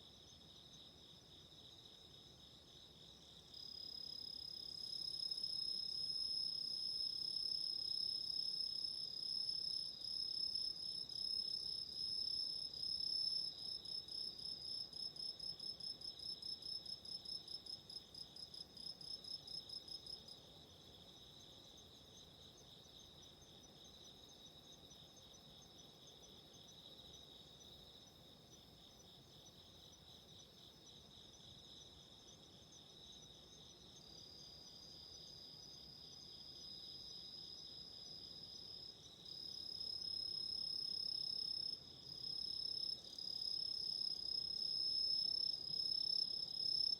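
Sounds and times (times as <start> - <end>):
faint insect chorus: 0.0 - 46.9.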